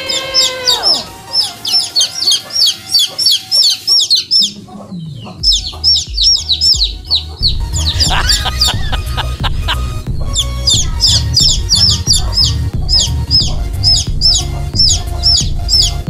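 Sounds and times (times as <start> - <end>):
baby chicks peeping: 0.0 - 16.0
deep thumping music beat: 0.0 - 16.0.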